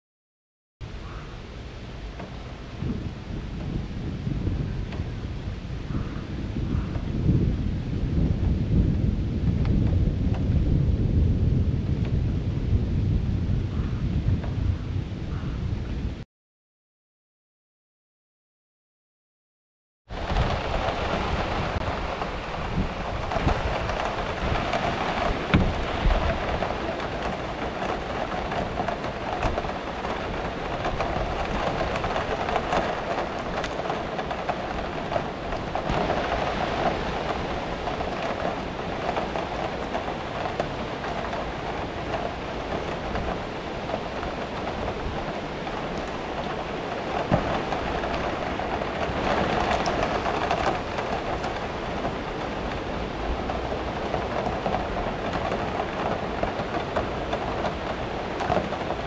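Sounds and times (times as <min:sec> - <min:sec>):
steady rain falling: 0:00.8 - 0:16.2, 0:20.1 - 0:59.0
low rumble of thunder: 0:00.9 - 0:16.2, 0:20.1 - 0:59.0.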